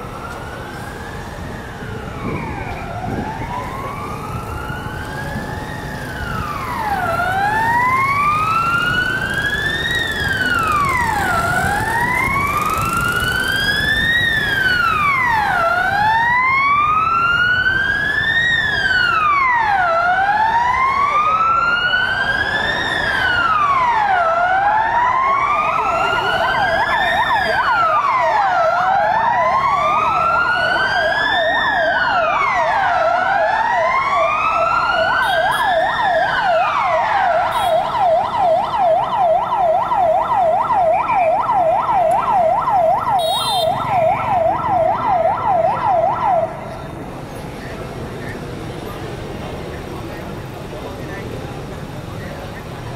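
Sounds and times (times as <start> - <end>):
fast warbling siren: 0.0 - 46.6
fire engine siren wailing: 0.0 - 52.9
rumble of engines and traffic: 0.0 - 52.9.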